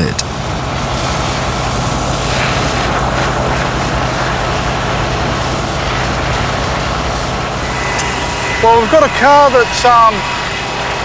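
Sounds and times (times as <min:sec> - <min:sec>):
low engine drone: 0:00.0 - 0:11.0
fire hose spraying water: 0:00.3 - 0:11.0.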